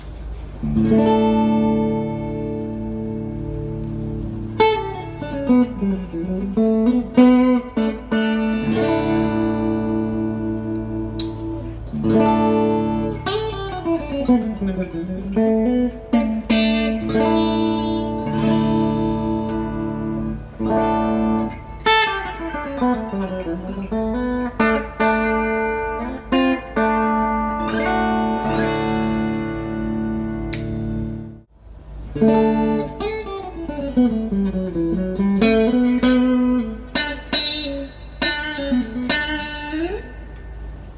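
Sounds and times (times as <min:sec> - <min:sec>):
electric guitar playing: 0:00.0 - 0:40.9.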